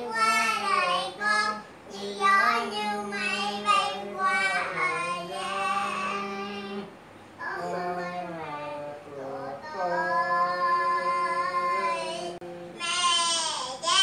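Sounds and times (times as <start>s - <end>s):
boy singing: 0.0s - 14.0s.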